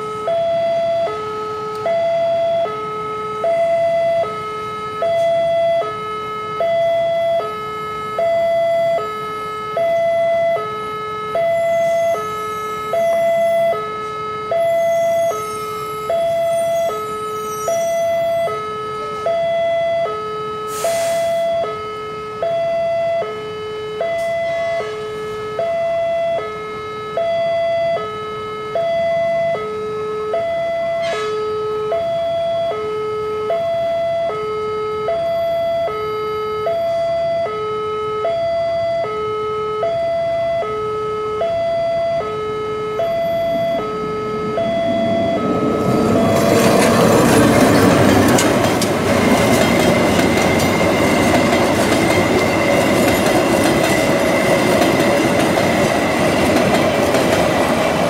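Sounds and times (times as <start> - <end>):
level crossing alarm two-tone: 0.0 - 58.0.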